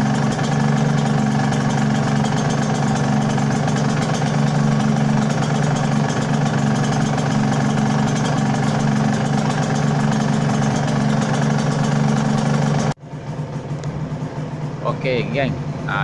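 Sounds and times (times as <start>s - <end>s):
two-stroke engine idling: 0.0s - 16.0s.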